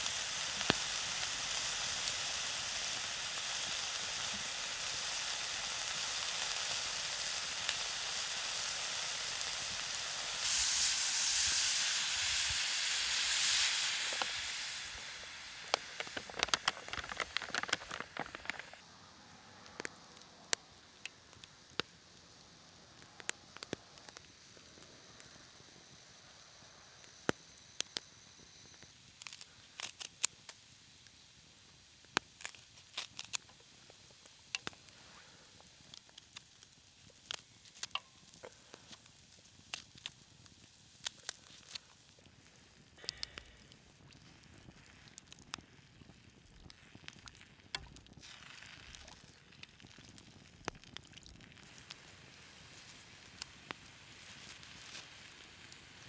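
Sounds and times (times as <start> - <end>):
campfire clicks and crackles: 0.0 - 18.8, 19.6 - 26.2, 27.0 - 56.0
food sizzling in a pan: 0.0 - 18.8, 23.6 - 56.0.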